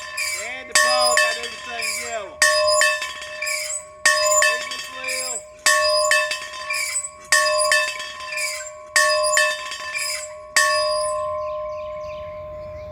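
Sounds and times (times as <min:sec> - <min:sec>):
bell ringing: 0:00.0 - 0:11.8.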